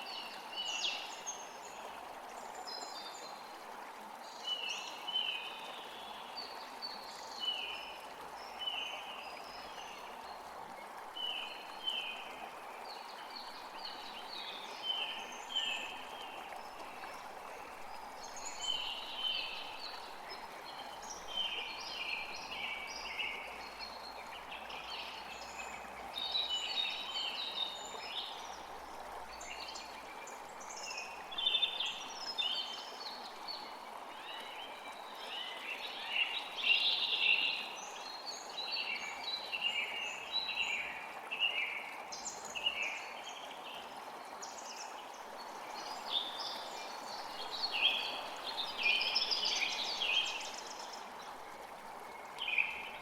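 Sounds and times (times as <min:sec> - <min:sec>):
forest creek flowing: 0:00.0 - 0:53.0
songbirds chirping: 0:05.6 - 0:53.0.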